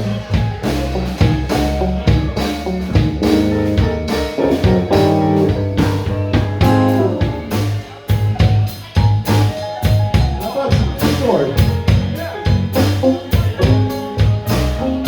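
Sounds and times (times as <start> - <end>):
bass and drum kit: 0.0 - 15.0
blues guitar: 0.0 - 15.0.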